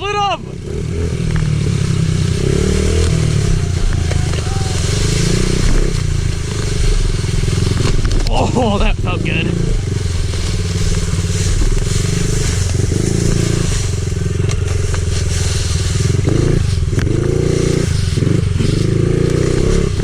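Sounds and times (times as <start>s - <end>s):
small motorbike engine revving: 0.4s - 20.0s.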